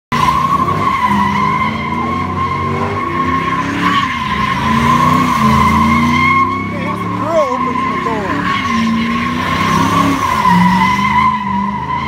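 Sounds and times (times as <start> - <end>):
truck engine revving: 0.3 - 12.0
tyres squealing: 0.4 - 12.0.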